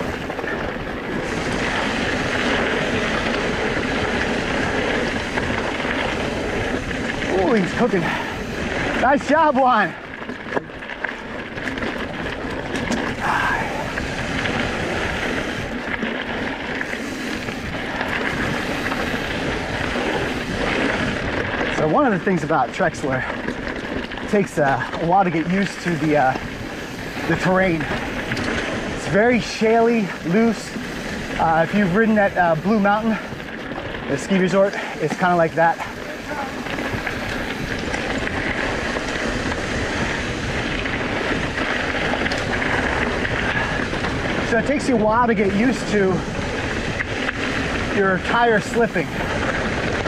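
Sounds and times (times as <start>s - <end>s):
wind on microphone: 0.0s - 10.8s, 11.5s - 22.0s, 23.0s - 50.0s
tyres rolling over loose shale: 0.0s - 50.0s.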